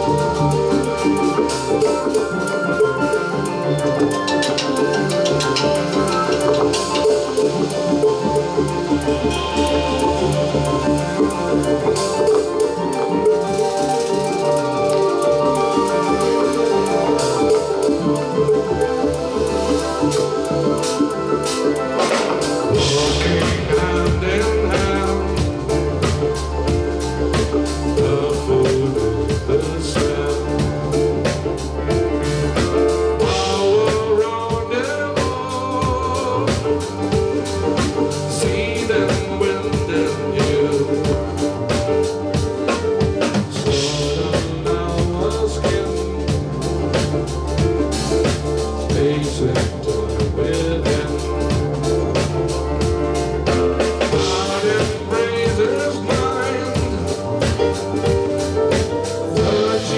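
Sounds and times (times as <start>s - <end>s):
drum kit beat: 0.0s - 59.9s
rock band playing: 0.0s - 59.9s.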